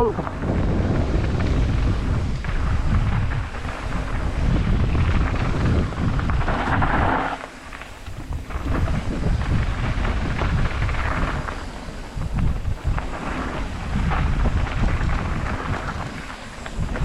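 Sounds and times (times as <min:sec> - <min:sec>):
bike rolling on dirt trail: 0:00.0 - 0:17.0
wind buffeting microphone: 0:00.0 - 0:17.0.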